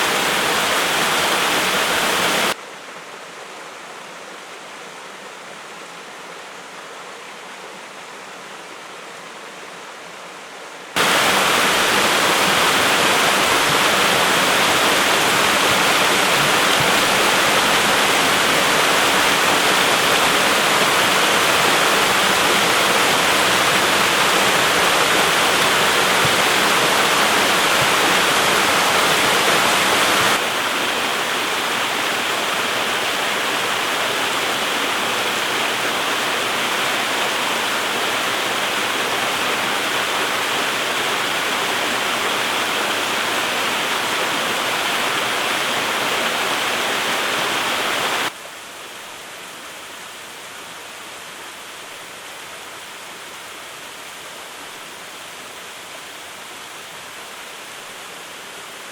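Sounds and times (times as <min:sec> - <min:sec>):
waterfall rushing: 0:00.0 - 0:02.6, 0:11.0 - 0:58.9.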